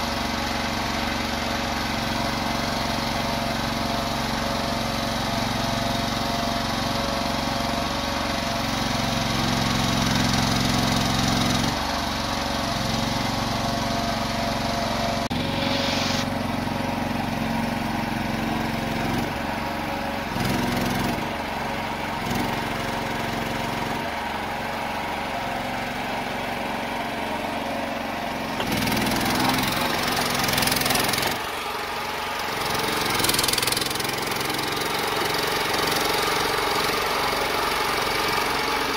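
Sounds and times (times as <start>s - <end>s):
small loader engine running: 0.0s - 38.9s.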